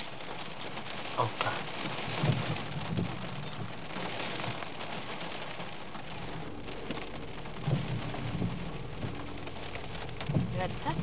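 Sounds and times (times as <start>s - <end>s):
rain on a moving car: 0.0s - 11.0s
wet road noise: 0.0s - 11.0s.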